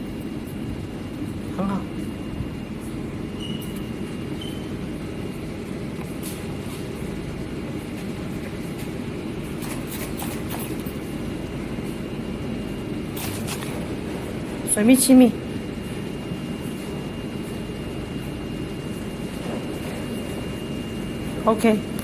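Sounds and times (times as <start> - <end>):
workshop machinery rumble: 0.0 - 22.0.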